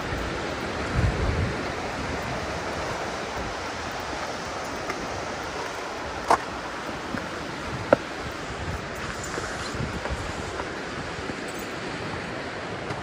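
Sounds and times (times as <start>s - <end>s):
waves washing on rocks: 0.0s - 13.0s
wind buffeting microphone: 0.0s - 13.0s.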